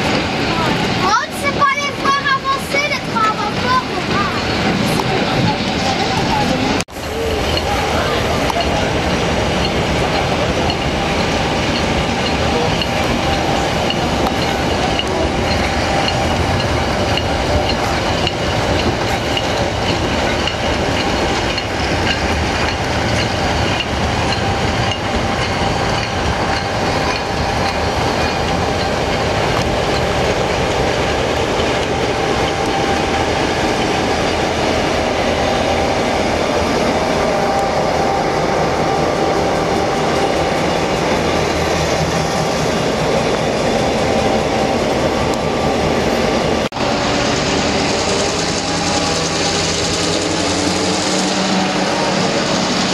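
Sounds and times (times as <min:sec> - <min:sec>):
train rumble: 0:00.0 - 0:52.9
train wheels clicking over rail joints: 0:00.0 - 0:52.9.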